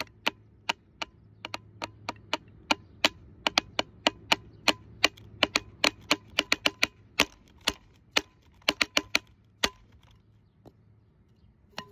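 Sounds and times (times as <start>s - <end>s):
drumsticks clicking on plastic jug: 0.0s - 10.2s.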